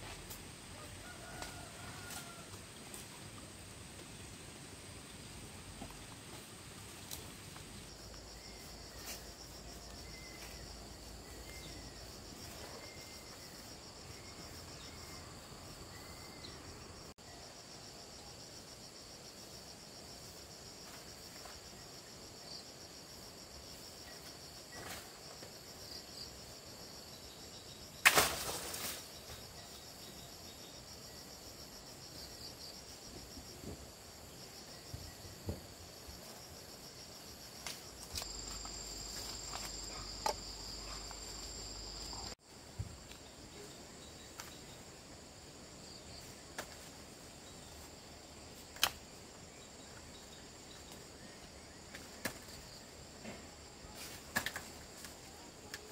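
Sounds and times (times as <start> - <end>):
crickets chirping: 0.0 - 55.9.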